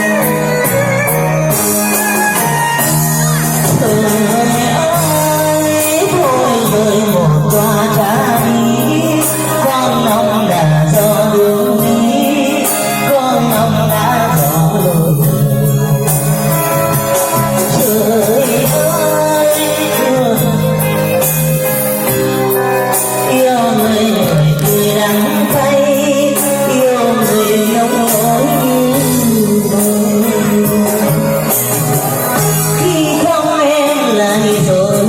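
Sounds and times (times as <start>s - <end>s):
song with singing: 0.0s - 35.0s.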